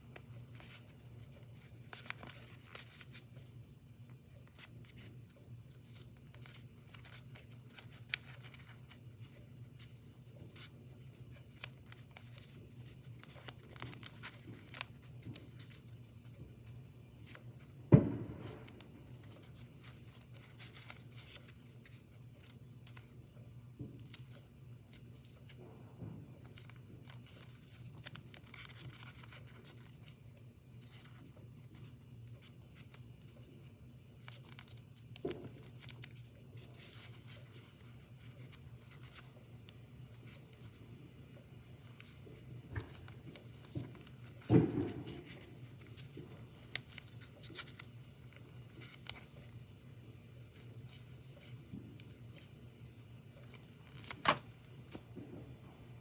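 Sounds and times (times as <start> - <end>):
paper rustling and crinkling: 0.1 - 49.7, 50.4 - 52.6, 53.3 - 55.2.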